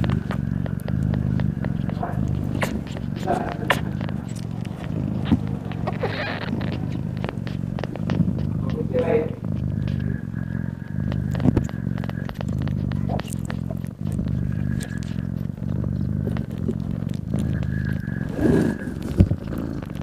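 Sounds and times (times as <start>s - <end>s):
cat purring loudly: 0.0s - 20.0s.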